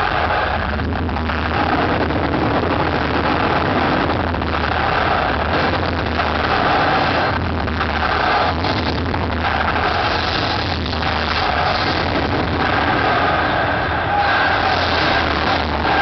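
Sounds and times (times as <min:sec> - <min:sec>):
crowd cheering: 0:00.0 - 0:16.0
deep drone: 0:00.0 - 0:16.0
rumbling sound effects over pa: 0:00.0 - 0:16.0.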